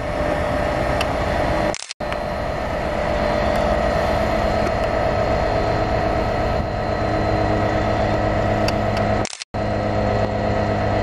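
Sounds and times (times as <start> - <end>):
low rumble: 0.0 - 11.0
train whine: 0.0 - 11.0.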